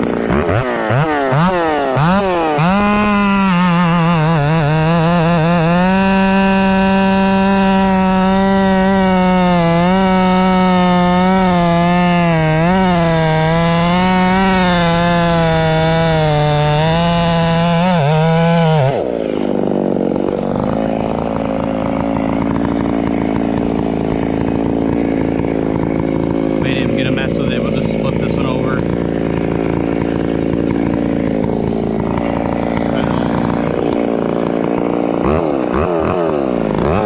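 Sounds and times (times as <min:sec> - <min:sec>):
chainsaw cutting through log: 0:00.0 - 0:37.0
chainsaw idling: 0:00.0 - 0:37.0.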